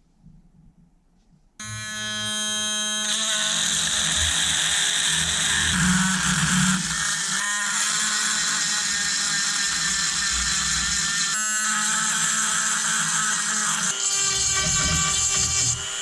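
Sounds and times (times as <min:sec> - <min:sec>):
electric power tool running: 0:01.6 - 0:16.0.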